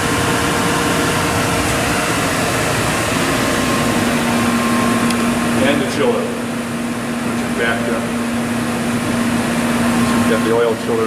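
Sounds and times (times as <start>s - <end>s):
blower running: 0.0s - 11.0s
drilling machine whir and hum: 0.0s - 11.0s.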